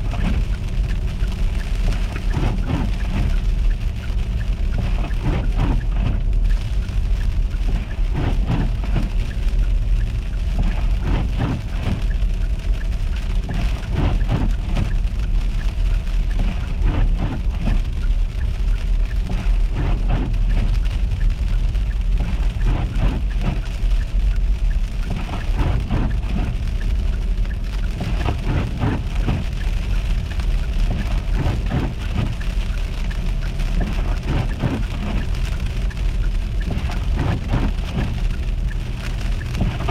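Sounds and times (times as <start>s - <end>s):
car rumbling along road: 0.0s - 39.9s
crackles and ticks: 0.0s - 39.9s.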